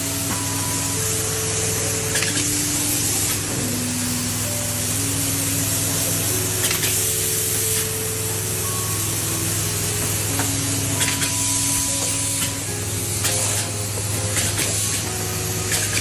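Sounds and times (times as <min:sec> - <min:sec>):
soft music of held notes: 0:00.0 - 0:16.0
steady hissing noise: 0:00.0 - 0:16.0.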